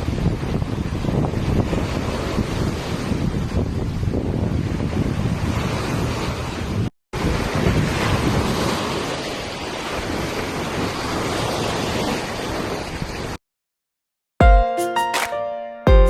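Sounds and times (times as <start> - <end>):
wind buffeting microphone: 0.0 - 13.4.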